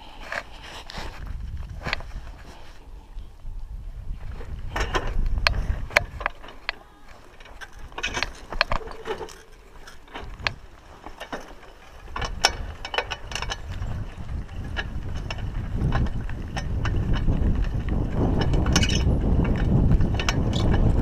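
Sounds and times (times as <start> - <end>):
bicycle rattling and clicking: 4.0 - 21.0.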